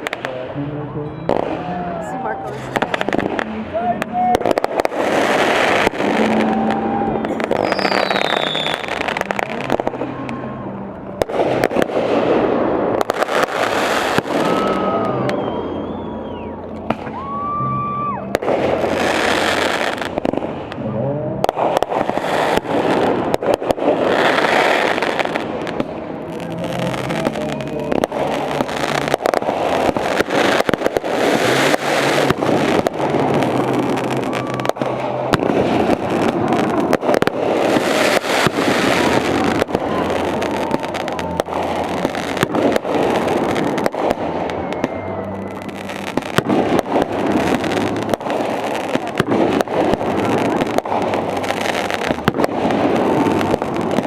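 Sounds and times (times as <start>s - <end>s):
fireworks whistling: 0.0s - 20.8s, 21.4s - 54.0s
fireworks bangs and crackling: 0.0s - 54.0s.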